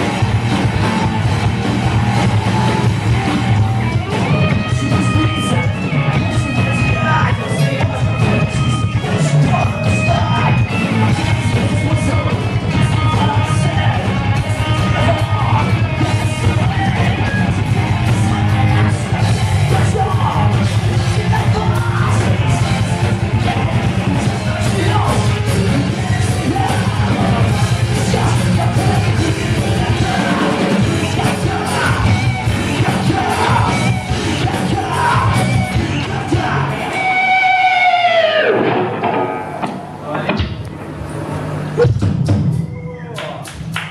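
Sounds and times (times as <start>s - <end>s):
bass guitar: 0.0s - 43.9s
distorted electric guitars: 0.0s - 43.9s
drums: 0.0s - 43.9s.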